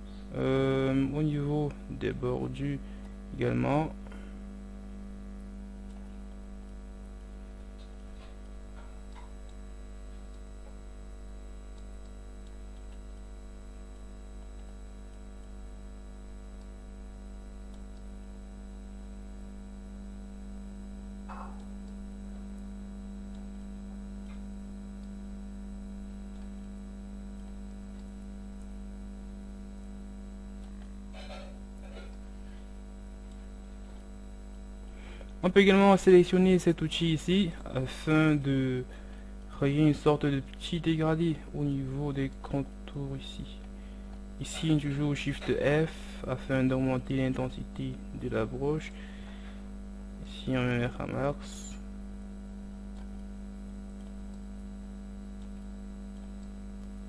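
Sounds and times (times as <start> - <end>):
buzzy electrical hum: 0.0 - 57.0.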